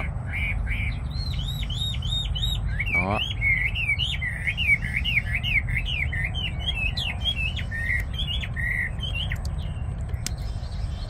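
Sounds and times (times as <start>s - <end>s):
songbird singing whistled phrases: 0.0s - 11.0s.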